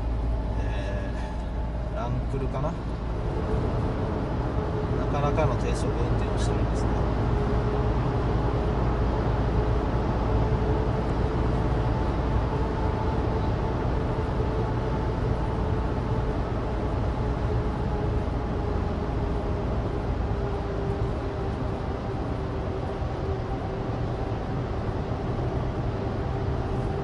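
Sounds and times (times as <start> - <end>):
car engine drone: 0.0 - 27.0
faint steady whine: 0.0 - 27.0
tyre road noise: 0.0 - 27.0.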